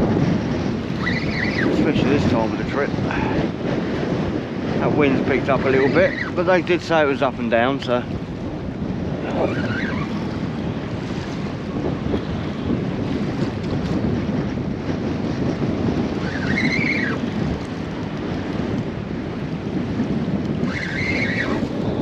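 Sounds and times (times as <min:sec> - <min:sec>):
choppy water: 0:00.0 - 0:22.0
wind buffeting microphone: 0:00.0 - 0:22.0.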